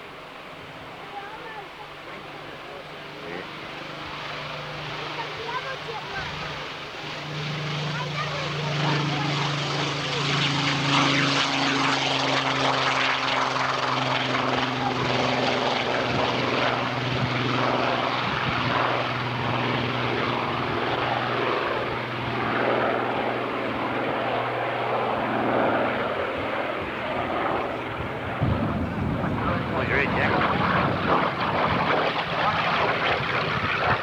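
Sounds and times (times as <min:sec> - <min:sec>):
propeller aircraft engine droning: 0:00.0 - 0:34.0.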